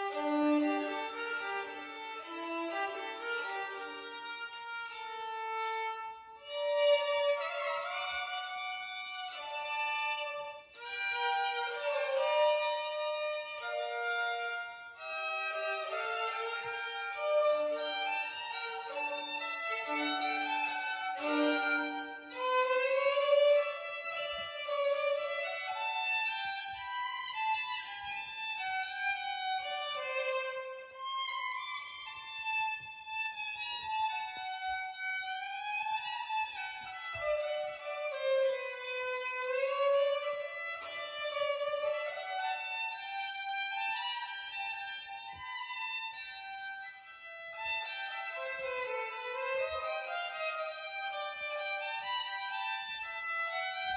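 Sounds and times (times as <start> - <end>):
violin melody: 0.0 - 53.9.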